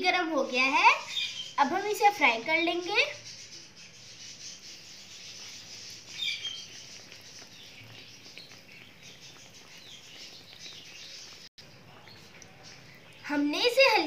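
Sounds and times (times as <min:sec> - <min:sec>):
ghee sizzling in a frying pan: 0:00.0 - 0:14.0.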